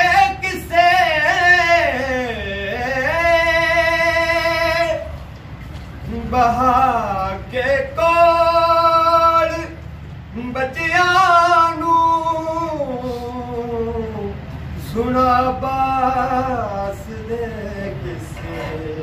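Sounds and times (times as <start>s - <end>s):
man singing unaccompanied: 0.0s - 5.2s, 6.0s - 19.0s.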